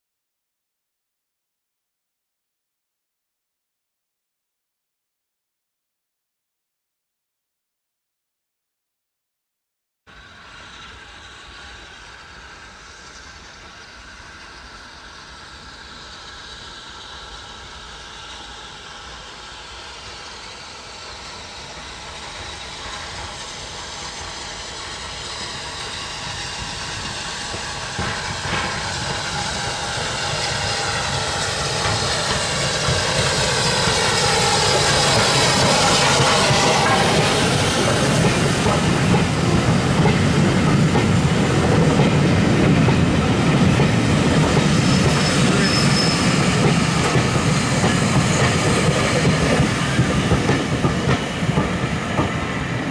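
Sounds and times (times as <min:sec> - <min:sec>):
steam train passing: 0:10.1 - 0:52.9.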